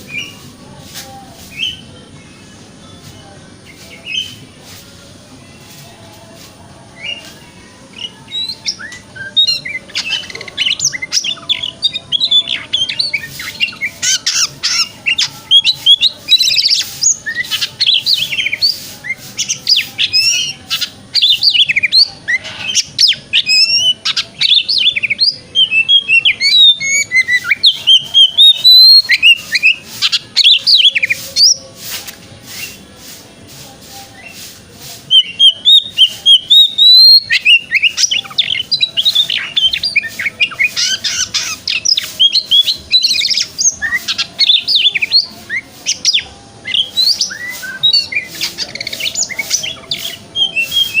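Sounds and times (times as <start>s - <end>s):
bird singing whistles and chatter: 0.0s - 51.0s.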